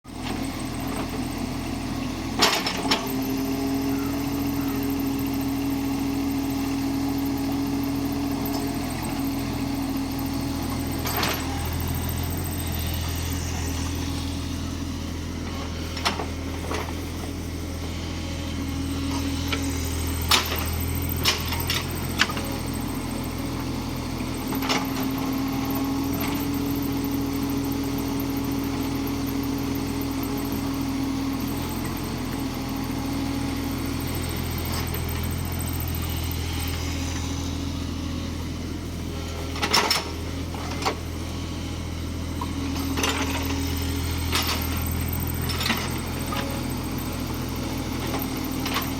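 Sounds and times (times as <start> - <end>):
excavator diesel engine running: 0.1 - 48.9.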